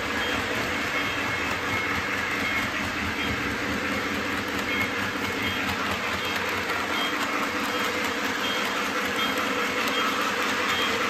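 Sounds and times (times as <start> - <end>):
model trains rumbling on track: 0.0 - 11.0.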